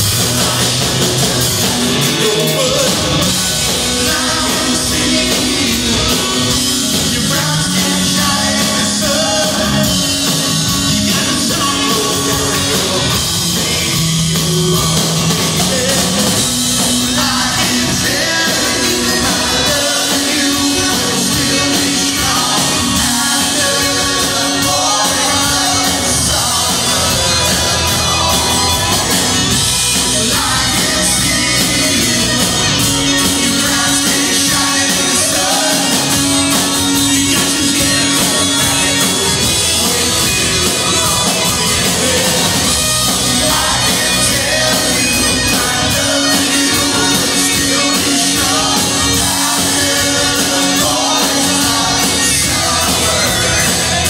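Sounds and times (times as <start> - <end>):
acoustic guitar: 0.0 - 54.0
live rock band playing: 0.0 - 54.0
man singing into a microphone: 0.2 - 54.0.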